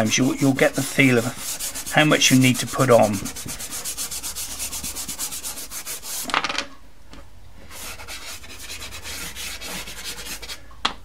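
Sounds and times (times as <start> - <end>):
pastel rubbing on paper: 0.1 - 6.3, 7.7 - 10.6.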